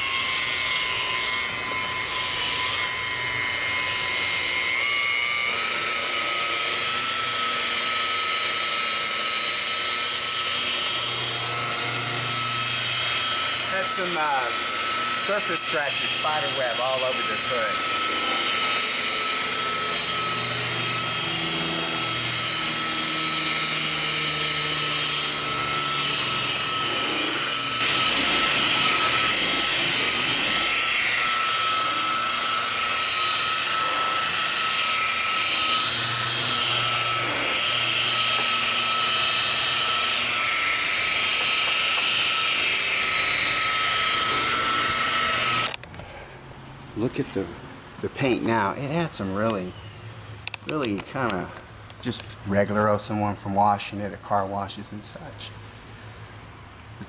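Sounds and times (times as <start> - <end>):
rotary buffer motor whine: 0.0 - 46.1.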